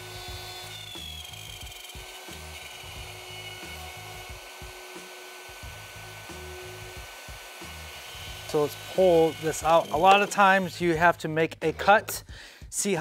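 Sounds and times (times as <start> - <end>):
router cutting wood: 0.0 - 11.2.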